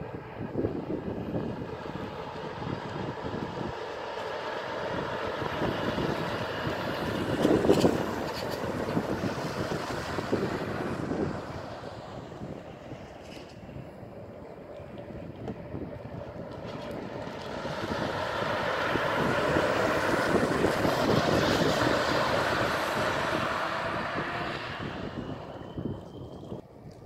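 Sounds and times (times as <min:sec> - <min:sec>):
truck tyre rolling noise: 0:00.0 - 0:27.0
wind on microphone: 0:00.0 - 0:27.0.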